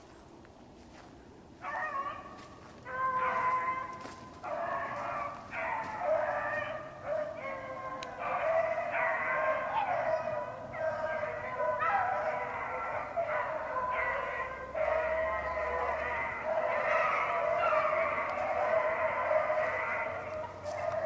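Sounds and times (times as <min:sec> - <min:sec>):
beagles baying: 0:00.9 - 0:21.0.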